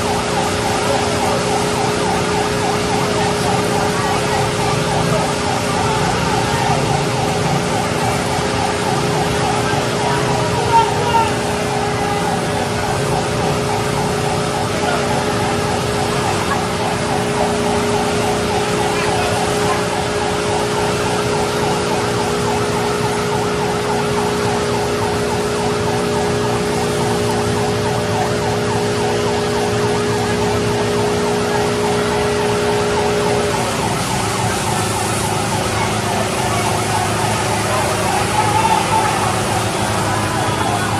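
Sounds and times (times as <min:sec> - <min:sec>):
fire engine siren: 0:00.0 - 0:40.9
rushing noise of spraying water: 0:00.0 - 0:40.9.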